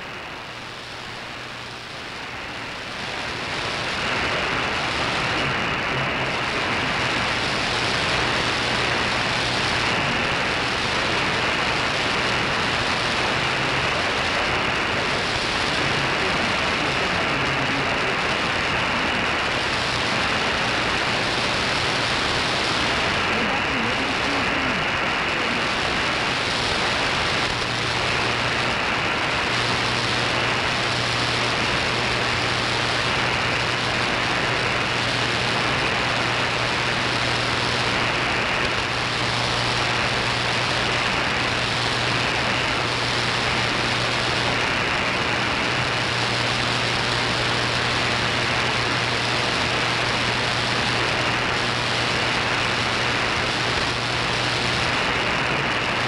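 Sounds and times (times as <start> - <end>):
radio static hiss: 0.0 - 56.0.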